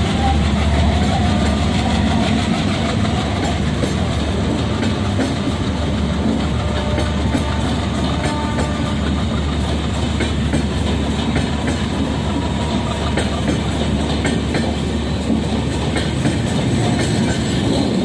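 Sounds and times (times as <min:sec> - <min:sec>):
train wheels clacking over rail joints: 0:00.0 - 0:18.0.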